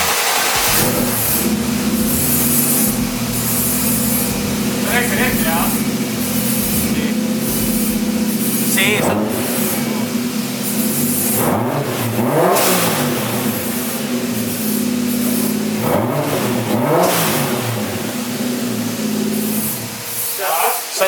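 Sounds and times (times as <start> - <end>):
car engine idling and revving: 0.0 - 20.4.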